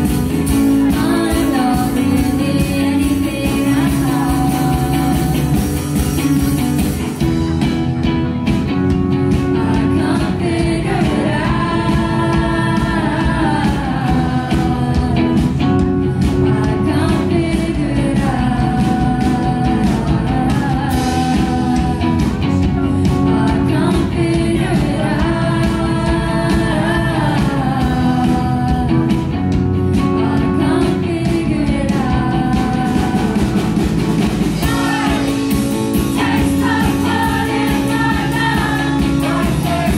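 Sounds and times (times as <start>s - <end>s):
woman singing into microphone: 0.0s - 5.6s, 9.4s - 33.9s, 34.5s - 39.9s
guitar chords: 0.0s - 39.9s.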